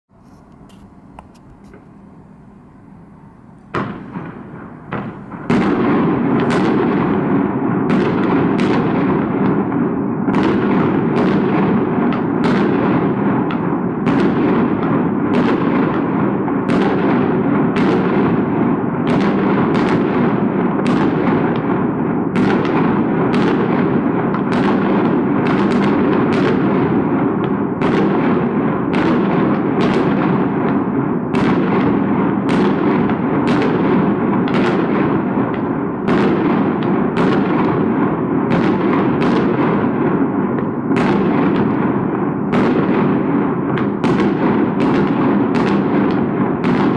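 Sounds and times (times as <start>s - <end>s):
fireworks bangs echoing: 0.2s - 46.9s
dense fireworks din: 1.2s - 46.9s.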